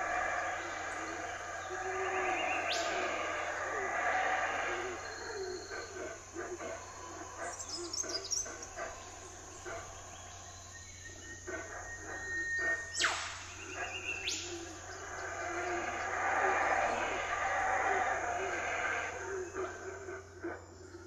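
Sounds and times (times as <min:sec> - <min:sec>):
bird chirps: 0:00.0 - 0:19.8
downward-sweeping bird call: 0:00.0 - 0:20.1.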